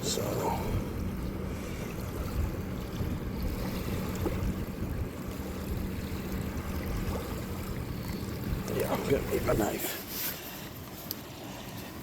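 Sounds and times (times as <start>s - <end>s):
faint constant hum: 0.0s - 12.0s
steady low rumble: 0.0s - 12.0s.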